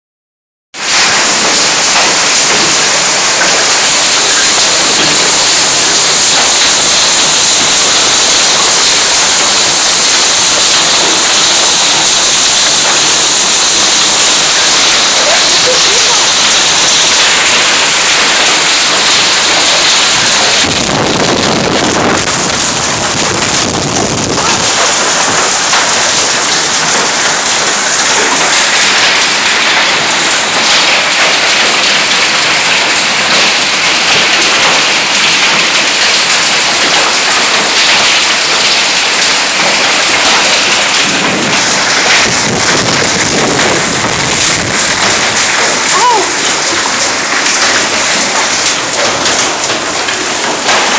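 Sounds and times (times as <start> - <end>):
hail and heavy rain: 0.8 - 50.9
thunder rumbling: 0.8 - 50.9.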